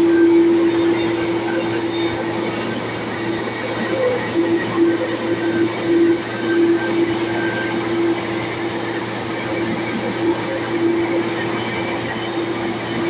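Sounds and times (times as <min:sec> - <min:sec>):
jet engines idling: 0:00.0 - 0:13.0.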